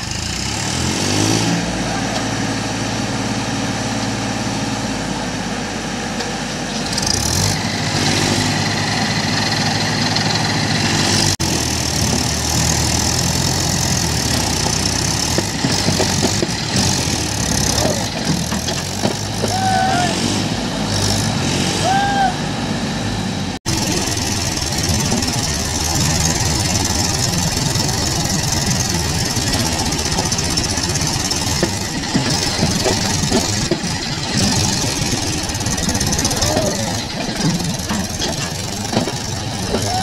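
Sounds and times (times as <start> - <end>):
tractor diesel engine revving: 0.0 - 40.0.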